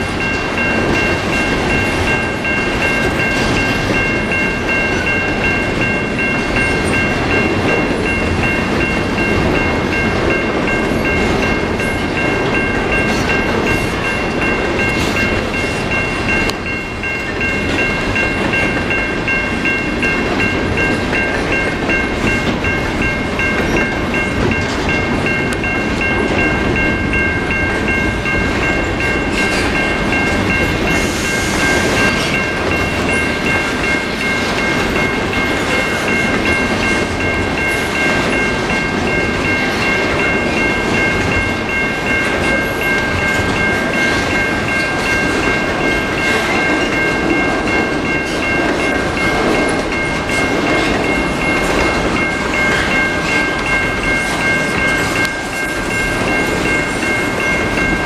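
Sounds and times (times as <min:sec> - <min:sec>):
level-crossing warning bell: 0:00.0 - 0:58.0
train wheels clattering over rails: 0:00.0 - 0:58.0.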